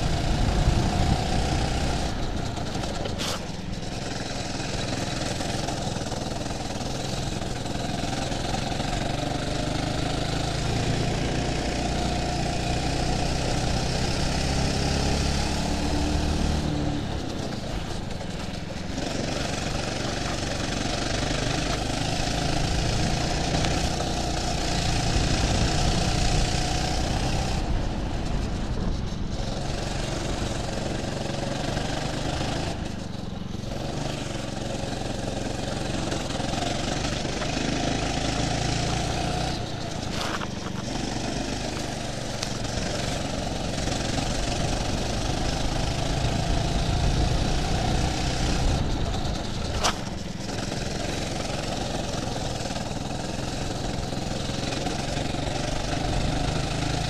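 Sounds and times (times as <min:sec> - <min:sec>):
steady rushing noise: 0:00.0 - 0:08.1, 0:14.9 - 0:57.0
go-kart engine under throttle: 0:00.0 - 0:57.0.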